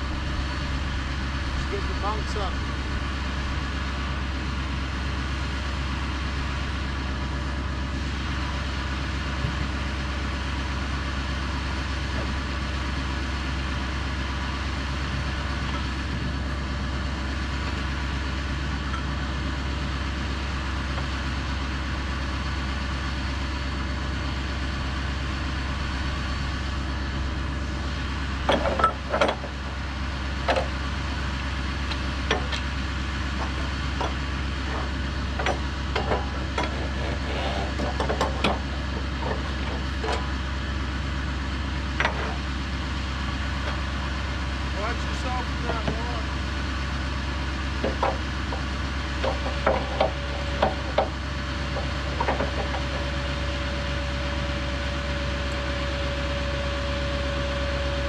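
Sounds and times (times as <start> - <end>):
gas engine idling: 0.0 - 58.0.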